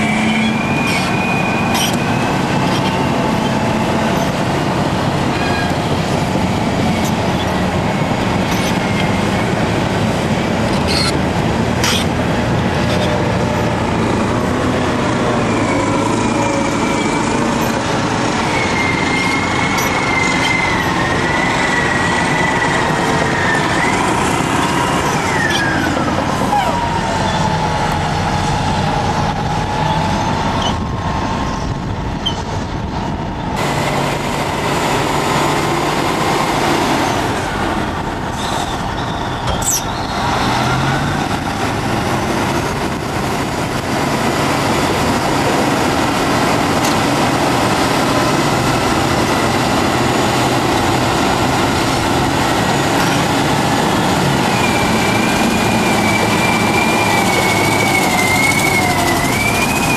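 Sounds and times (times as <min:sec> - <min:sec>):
diesel engines running hard: 0:00.0 - 0:59.9.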